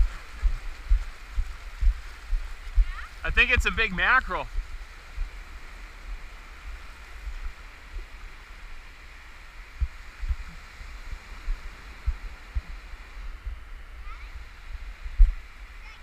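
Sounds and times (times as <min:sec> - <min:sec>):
surf washing on sand beach: 0:00.0 - 0:16.0.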